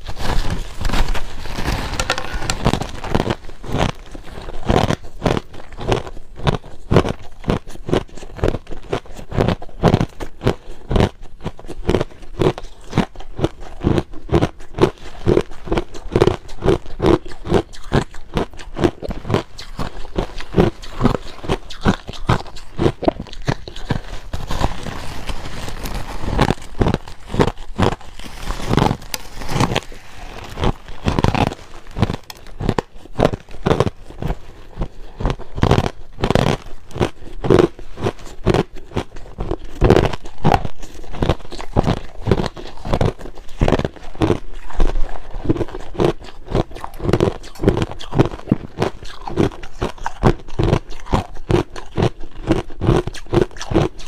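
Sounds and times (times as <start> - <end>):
crushed ice being chewed: 0.0 - 54.0.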